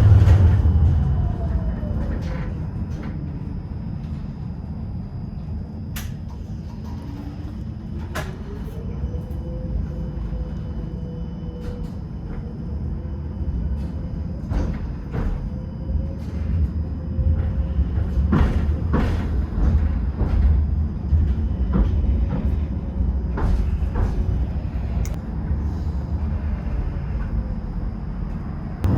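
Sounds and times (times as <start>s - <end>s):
tram rumble and motor whine: 0.0s - 28.9s.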